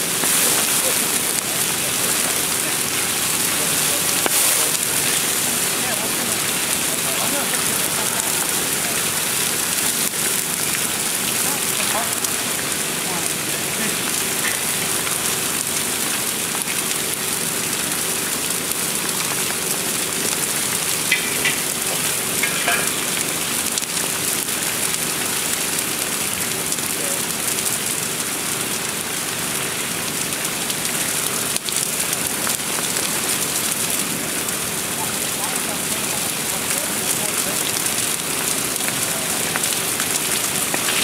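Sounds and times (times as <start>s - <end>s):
fire crackling: 0.0s - 41.0s.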